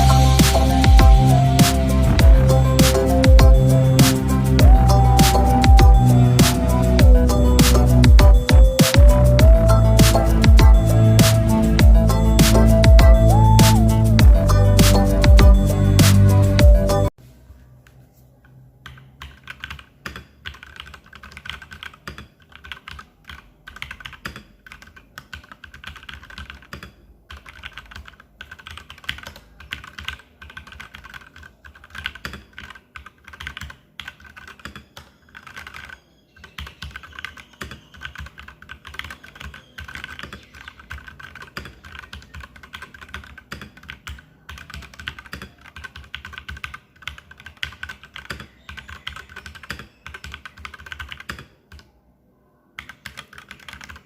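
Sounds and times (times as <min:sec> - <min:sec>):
fast keyboard typing: 0:00.0 - 0:17.1, 0:18.8 - 0:51.9, 0:52.8 - 0:54.0.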